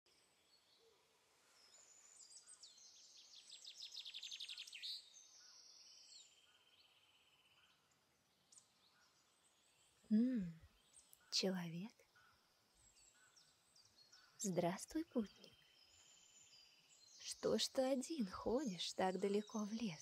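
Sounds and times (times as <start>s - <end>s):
birdsong chirps and trills: 0.1s - 20.0s.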